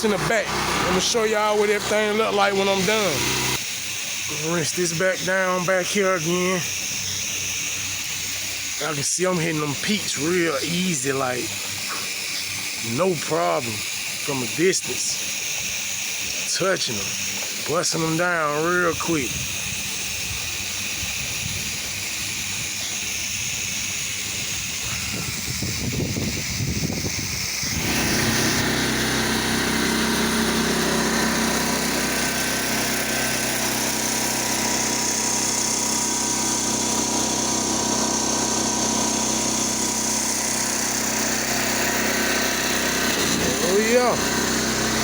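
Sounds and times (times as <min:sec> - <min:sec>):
pressure washer engine hum: 0:00.0 - 0:45.0
pressure washer spray hissing: 0:00.0 - 0:45.0.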